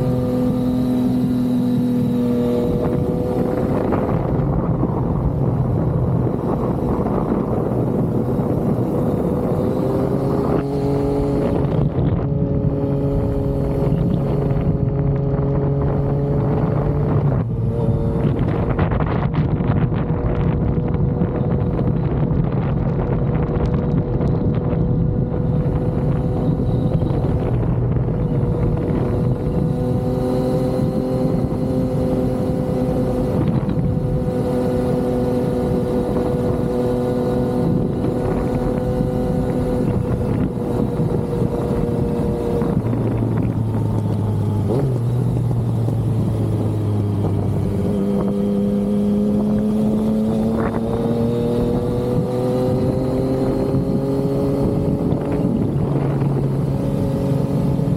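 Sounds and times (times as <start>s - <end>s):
motorcycle engine running: 0.0s - 57.9s
wind rushing over microphone: 0.0s - 57.9s.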